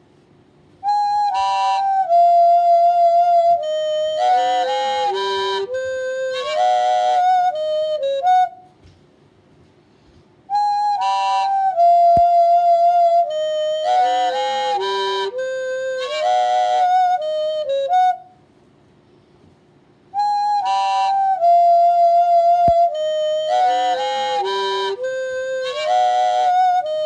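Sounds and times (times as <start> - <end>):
flute-like melody from radio: 0.8 - 8.8, 10.5 - 18.4, 20.2 - 27.0.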